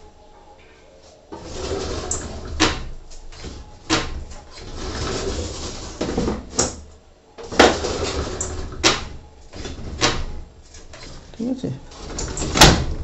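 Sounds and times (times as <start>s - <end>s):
sliding door rumbling on track: 1.4s - 13.0s.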